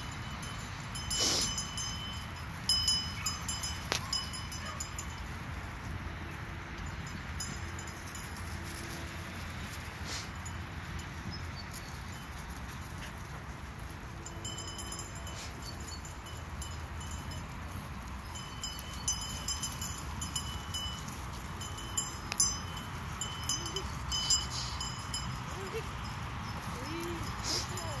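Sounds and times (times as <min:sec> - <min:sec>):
small bells jingling: 0:00.0 - 0:28.0.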